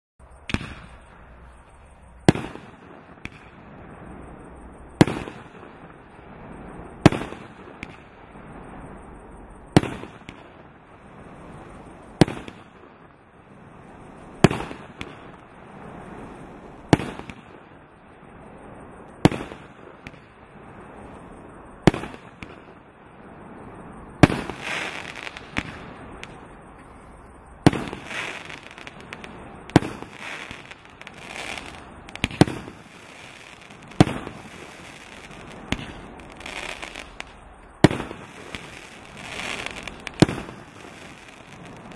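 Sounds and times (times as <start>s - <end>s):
firework bangs with hissing tail: 0.2s - 41.9s
firework crackling: 0.2s - 41.9s.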